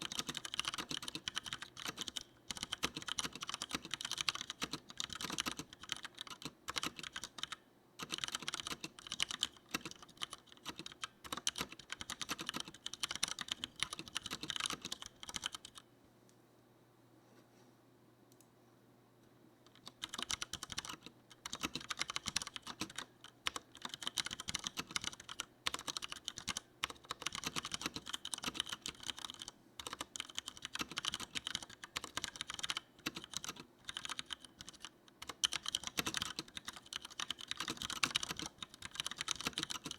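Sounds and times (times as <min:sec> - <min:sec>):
mechanical keyboard typing: 0:00.0 - 0:15.8, 0:19.7 - 0:39.9.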